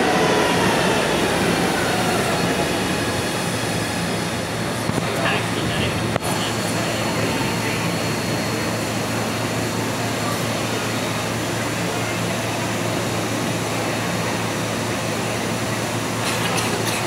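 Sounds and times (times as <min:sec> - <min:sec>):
subway car rushing hum: 0:00.0 - 0:17.0.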